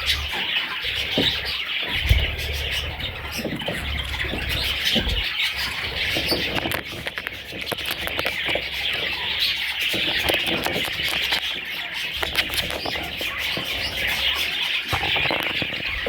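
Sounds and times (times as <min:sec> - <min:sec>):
budgerigars chattering: 0:00.0 - 0:16.0.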